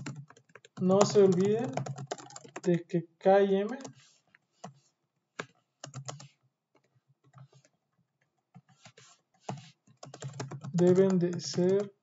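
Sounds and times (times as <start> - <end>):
typing on a keyboard: 0.0 - 2.8, 3.7 - 4.8, 5.4 - 7.7, 8.5 - 12.0.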